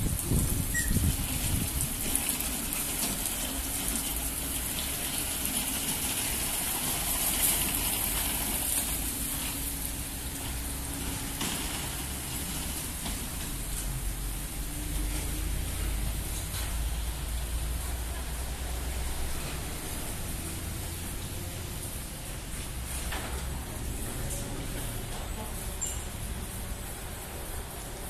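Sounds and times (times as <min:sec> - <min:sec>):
water rushing in car wash: 0:00.0 - 0:28.0.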